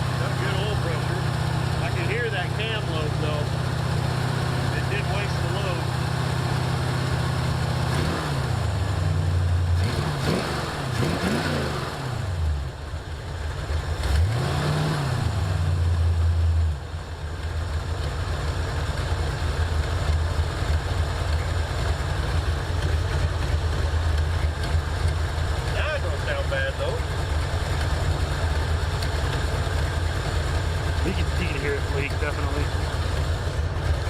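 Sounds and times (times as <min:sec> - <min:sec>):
car engine revving and idling: 0:00.0 - 0:34.0.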